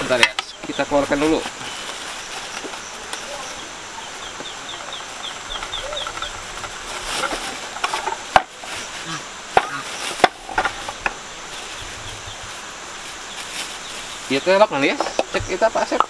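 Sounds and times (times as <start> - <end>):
insect chirping: 0.0 - 16.0
plastic bag rustling and crinkling: 0.0 - 16.0.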